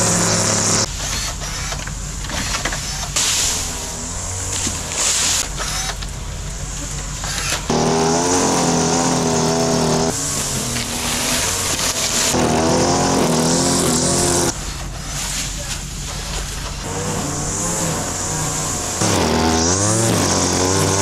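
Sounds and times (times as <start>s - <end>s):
small engines running at high speed: 0.0s - 21.0s.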